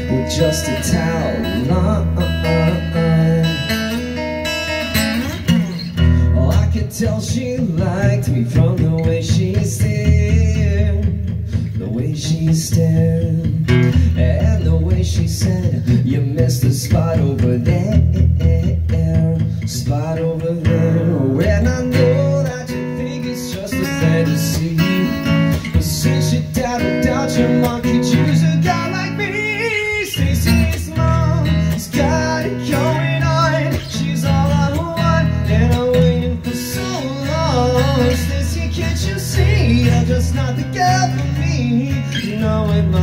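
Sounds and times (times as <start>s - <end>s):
acoustic guitar strumming: 0.0s - 43.0s
man singing: 0.0s - 43.0s.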